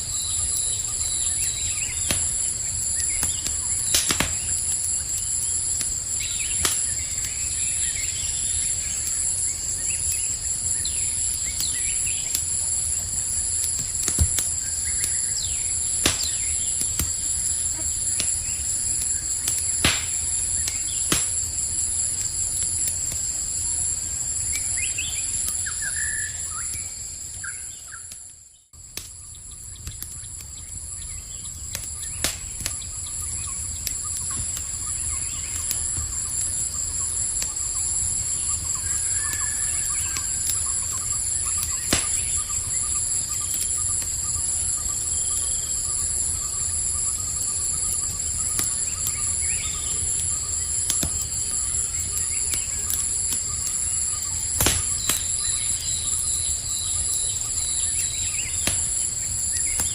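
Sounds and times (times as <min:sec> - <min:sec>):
campfire crackling and popping: 0:00.0 - 0:28.2, 0:28.8 - 0:59.9
insects trilling: 0:00.0 - 0:59.9.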